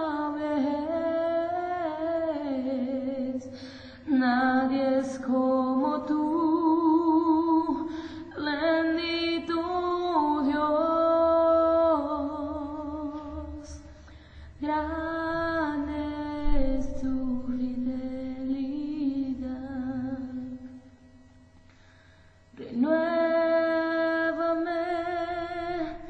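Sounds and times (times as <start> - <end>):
woman singing worship song: 0.0 - 21.0, 22.5 - 26.0.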